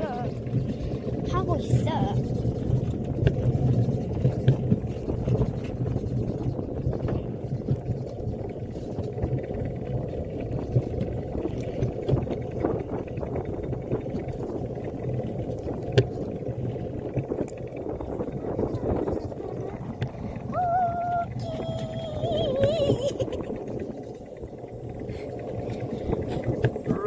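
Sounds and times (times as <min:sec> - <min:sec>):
cart wheels rumbling on concrete: 0:00.0 - 0:27.0.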